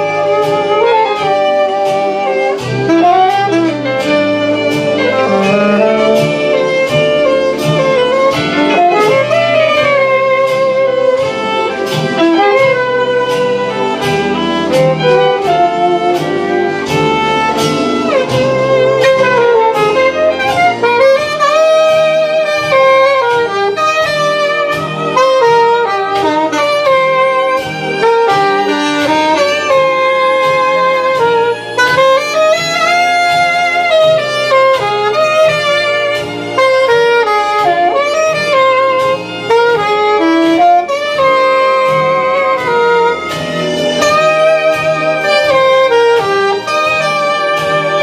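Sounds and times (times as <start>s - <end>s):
instrumental music with beat: 0.0s - 48.0s.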